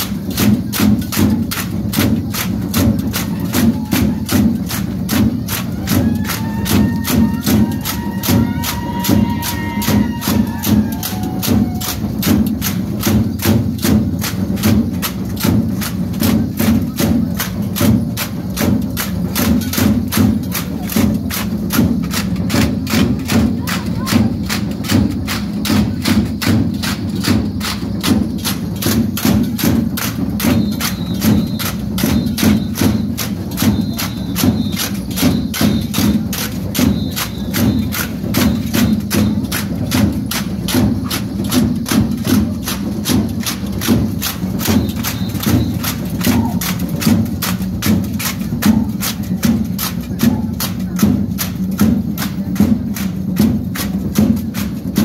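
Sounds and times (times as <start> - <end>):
folk dance music: 0.0 - 55.0.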